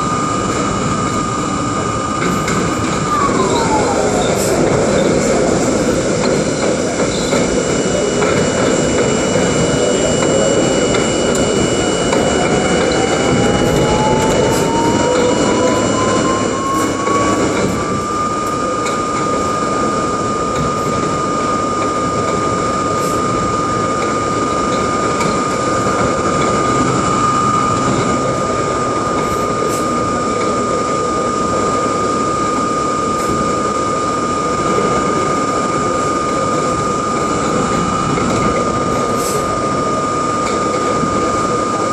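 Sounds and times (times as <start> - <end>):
traction motors whining: 0.0 - 41.9
wheels rumbling on rail: 0.0 - 41.9.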